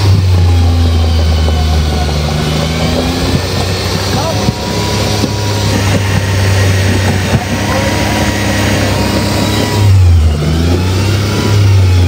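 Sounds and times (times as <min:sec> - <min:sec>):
buggy engine revving: 0:00.0 - 0:12.0
tires spinning on rock and dirt: 0:00.0 - 0:12.0.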